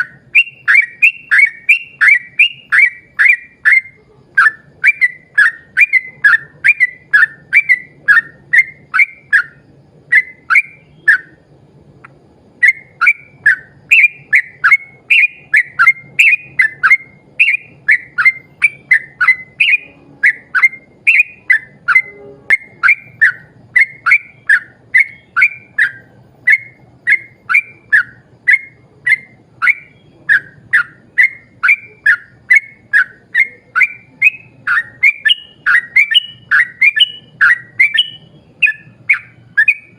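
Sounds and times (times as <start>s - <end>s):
bulbul singing whistled notes: 0.0s - 39.9s.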